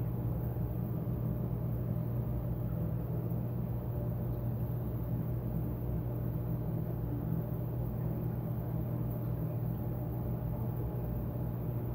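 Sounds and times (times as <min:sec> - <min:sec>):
aquarium pumps humming: 0:00.0 - 0:11.9.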